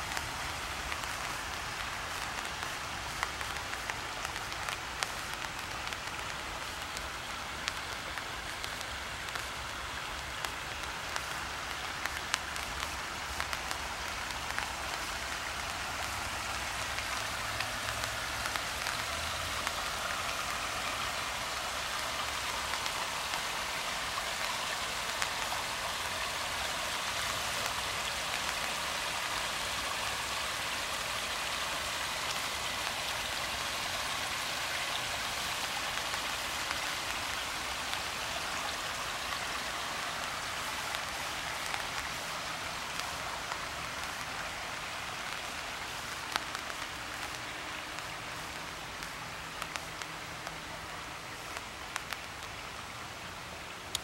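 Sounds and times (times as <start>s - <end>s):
rain on water and leaves: 0.0s - 54.0s
water drips: 0.0s - 54.0s.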